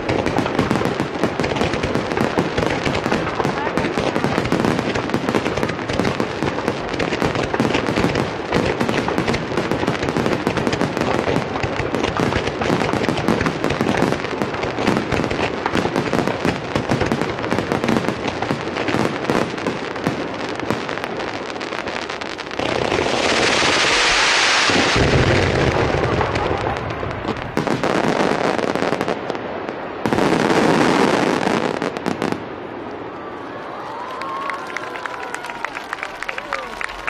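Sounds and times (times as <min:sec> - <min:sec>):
fireworks bursting: 0:00.0 - 0:37.0
fireworks crackling: 0:00.0 - 0:37.0.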